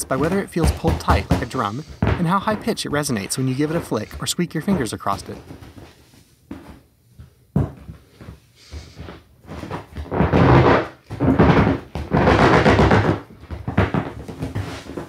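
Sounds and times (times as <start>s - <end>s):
hand squeaking across vinyl: 0.0s - 6.8s, 8.6s - 15.0s
hand tapping inflated vinyl: 0.0s - 15.0s.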